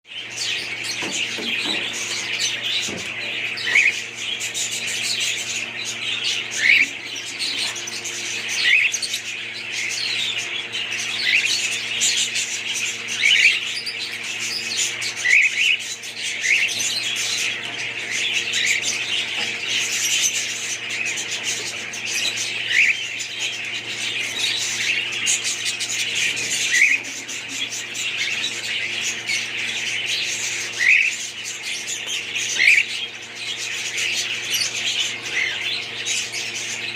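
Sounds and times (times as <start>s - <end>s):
budgerigars chattering and warbling: 0.1s - 36.9s.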